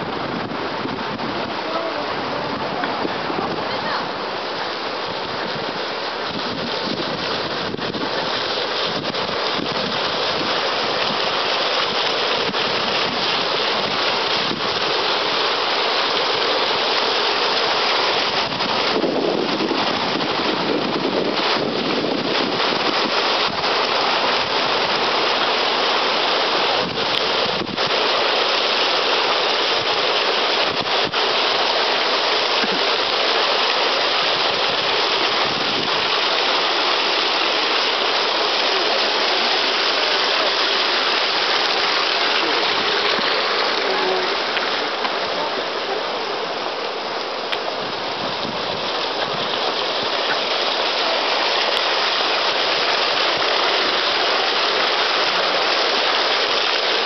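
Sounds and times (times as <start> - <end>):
fountain jets splashing into pool: 0.0 - 57.0.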